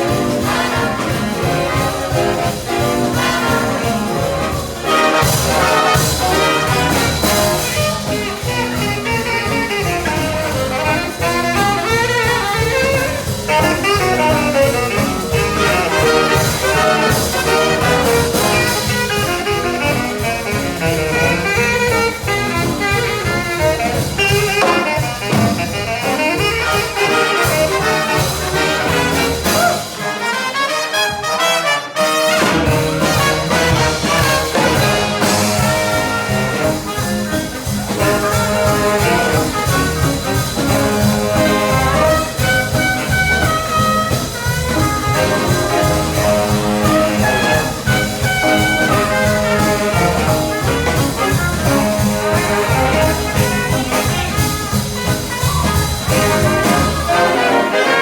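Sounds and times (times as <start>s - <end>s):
bass and drums: 0.0s - 58.0s
brass and saxophones: 0.0s - 58.0s.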